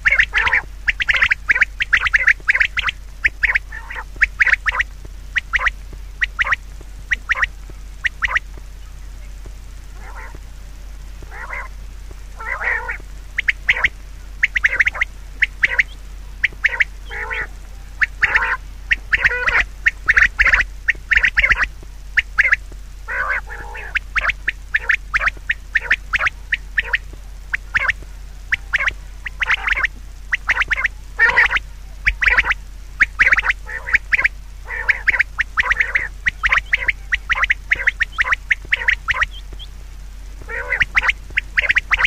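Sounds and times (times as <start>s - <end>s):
birds giving harsh calls: 0.0s - 42.0s
steady low hum: 0.0s - 42.0s.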